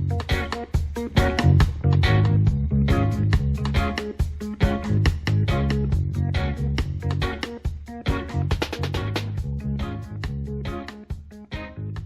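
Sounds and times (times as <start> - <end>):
upbeat funk music: 0.0 - 12.0.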